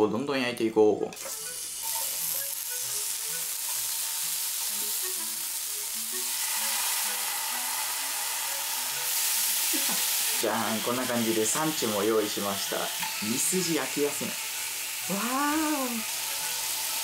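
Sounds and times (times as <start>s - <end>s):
faint background music: 0.0s - 17.0s
beef sizzling on grill: 1.2s - 17.0s.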